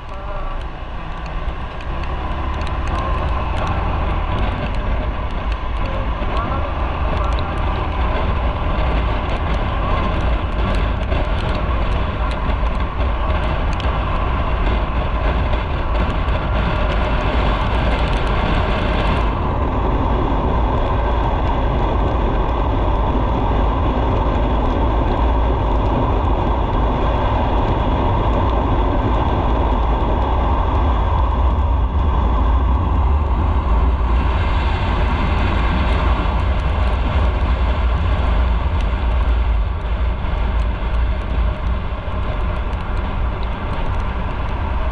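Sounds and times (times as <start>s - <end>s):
motorcycle engine rumble: 0.0s - 44.9s
wind rushing past microphone: 0.0s - 44.9s.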